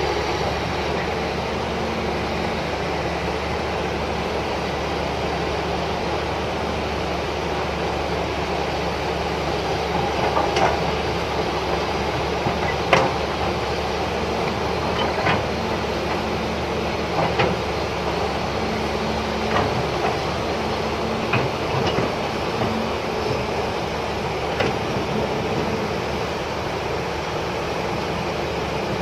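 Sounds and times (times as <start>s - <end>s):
excavator diesel engine running: 0.0s - 29.0s
rushing river water: 0.0s - 29.0s.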